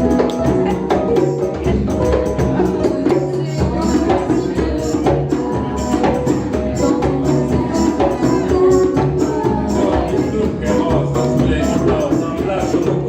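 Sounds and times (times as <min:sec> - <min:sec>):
live band instrumental music: 0:00.0 - 0:13.0.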